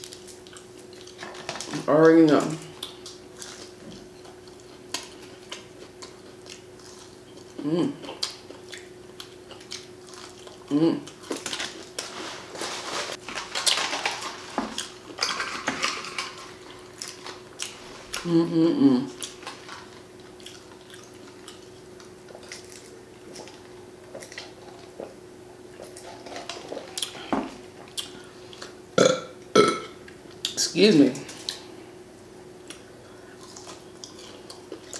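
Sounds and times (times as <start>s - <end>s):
chewing and smacking: 0.0s - 1.8s, 2.4s - 12.1s, 13.2s - 18.3s, 19.1s - 28.8s, 32.6s - 34.9s.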